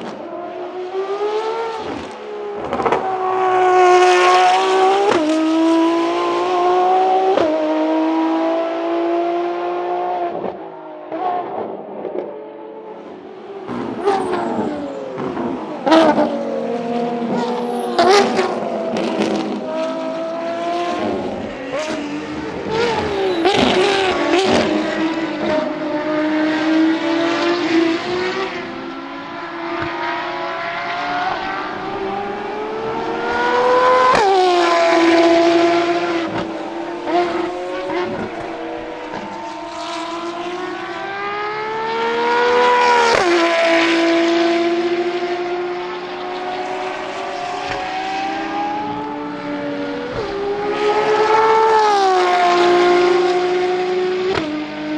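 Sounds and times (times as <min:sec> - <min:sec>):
race car engines at full throttle: 0:00.0 - 0:54.9.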